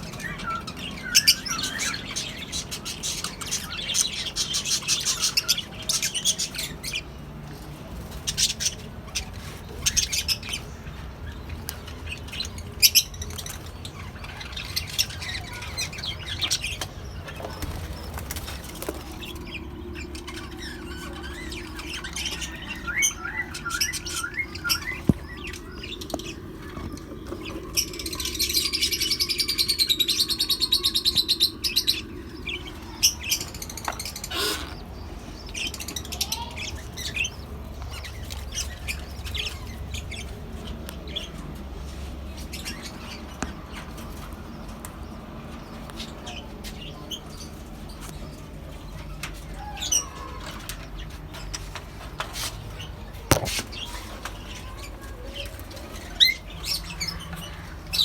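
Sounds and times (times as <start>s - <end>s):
birds chirping and chattering: 0.0s - 58.0s.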